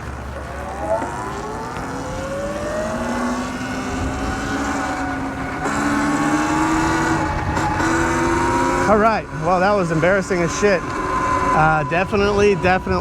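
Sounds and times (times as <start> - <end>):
electric dirt bike motor whining: 0.0 - 13.0
wind noise on microphone: 0.0 - 13.0.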